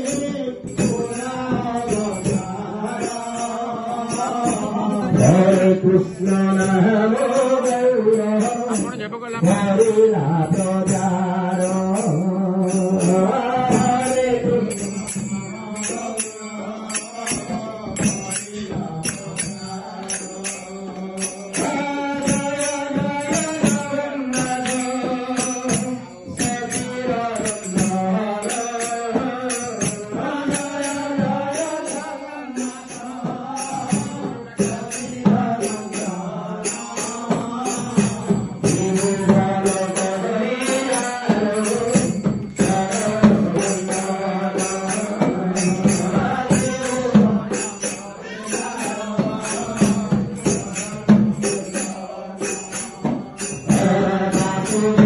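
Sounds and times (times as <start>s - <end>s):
clinking percussion beat: 0.0s - 55.0s
group singing a devotional chant: 0.0s - 55.0s.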